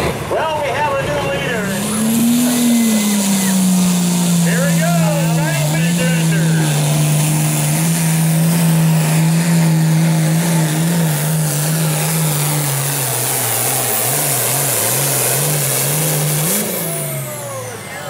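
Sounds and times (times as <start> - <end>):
tractor diesel engine straining: 0.0 - 18.0.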